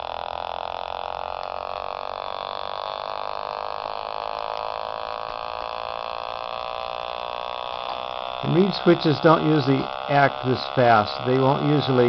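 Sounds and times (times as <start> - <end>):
electrical buzz from radio: 0.0 - 12.0.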